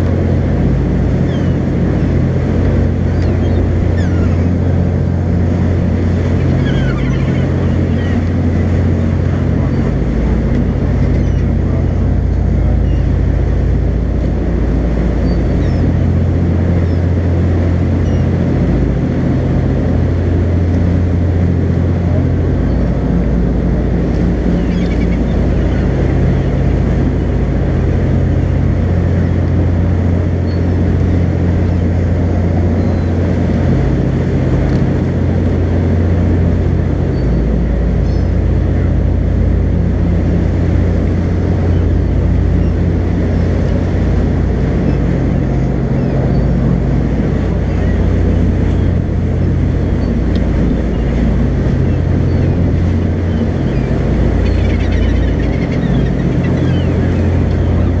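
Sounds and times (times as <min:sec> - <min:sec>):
boat engine low drone: 0:00.0 - 0:58.0
wind and water rushing: 0:00.0 - 0:58.0.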